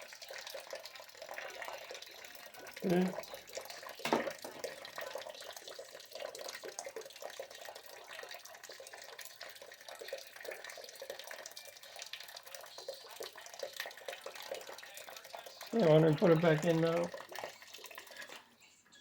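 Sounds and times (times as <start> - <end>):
hot water running and splashing: 0.0 - 18.4.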